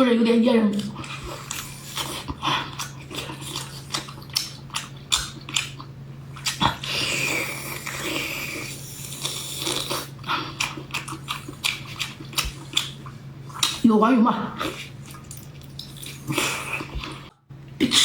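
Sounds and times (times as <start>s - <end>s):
person chewing seafood: 1.0s - 13.8s, 14.6s - 17.4s.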